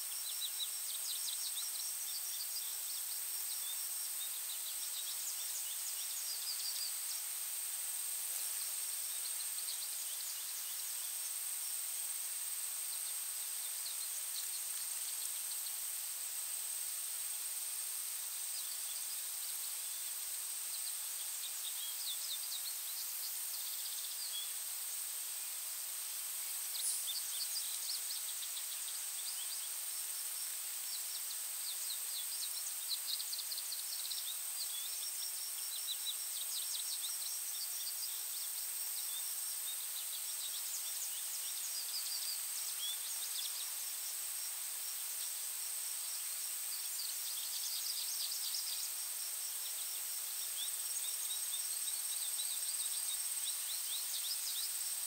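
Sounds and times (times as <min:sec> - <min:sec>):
soft hiss: 0:00.0 - 0:55.0
songbirds chirping and twittering: 0:00.0 - 0:55.0.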